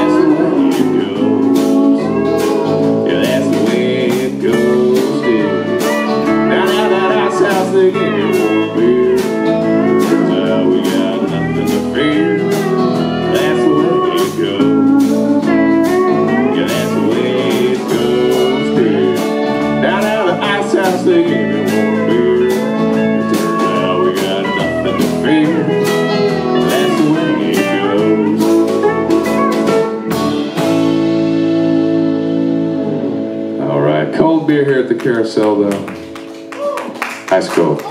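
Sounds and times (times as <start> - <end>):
drums keeping a beat: 0.0 - 33.0, 34.1 - 37.9
pedal steel guitar sliding notes: 0.0 - 34.6
bass guitar: 0.0 - 37.9
electric guitar: 0.0 - 37.9.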